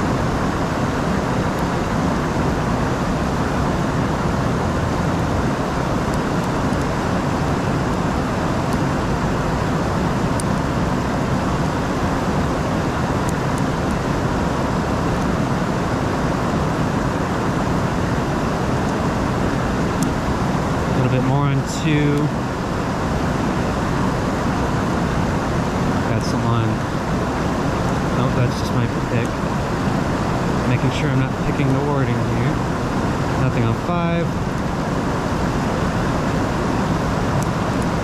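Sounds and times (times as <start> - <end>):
river rushing over rapids: 0.0 - 38.0.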